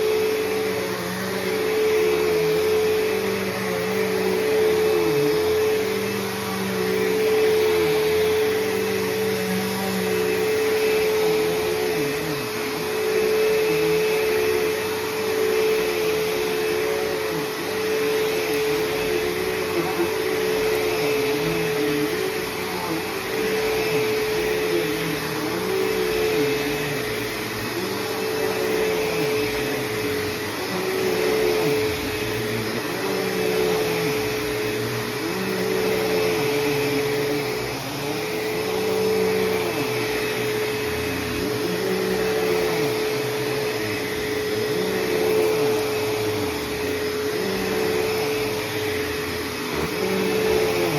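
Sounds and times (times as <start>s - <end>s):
upright vacuum cleaner running: 0.0s - 50.9s.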